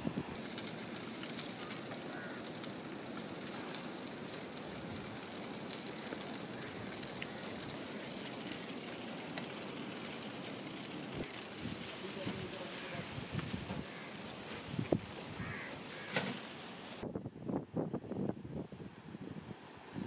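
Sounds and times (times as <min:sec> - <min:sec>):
faint crackles: 0:00.3 - 0:17.0
fish sizzling on a grill: 0:00.4 - 0:17.0.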